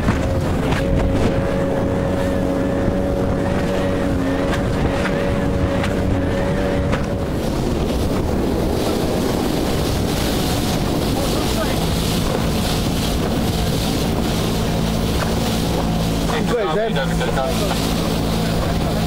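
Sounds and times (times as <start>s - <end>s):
outboard engine running: 0.0s - 19.0s
rush of wind and water: 0.0s - 19.0s.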